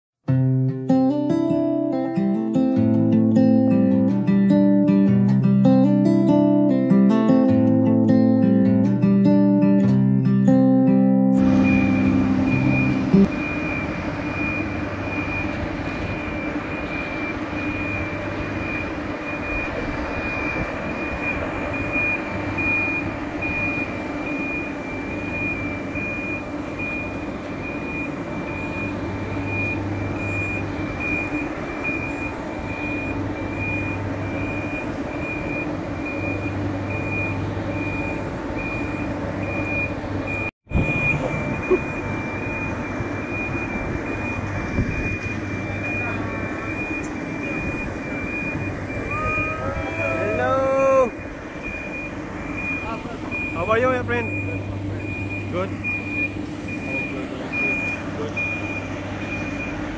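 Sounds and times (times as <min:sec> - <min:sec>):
engine humming: 0:10.5 - 0:59.9
warning beeper: 0:11.4 - 0:59.9.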